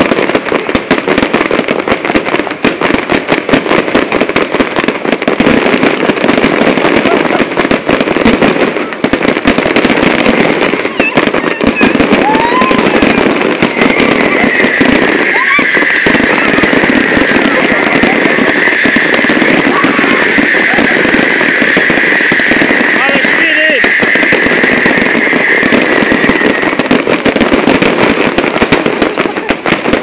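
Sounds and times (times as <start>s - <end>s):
fireworks crackling bangs: 0.0s - 30.0s
fireworks rising whistles: 5.4s - 30.0s.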